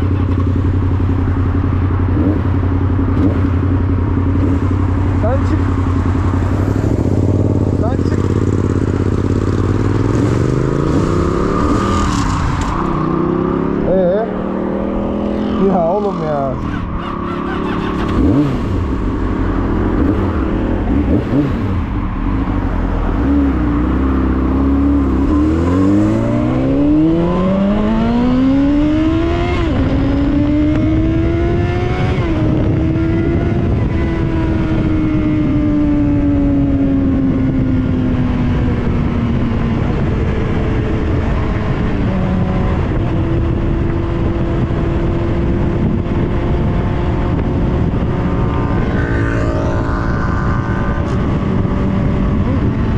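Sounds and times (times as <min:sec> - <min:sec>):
motorcycle engine accelerating: 0:00.0 - 0:52.9
wind and road rush: 0:00.0 - 0:52.9.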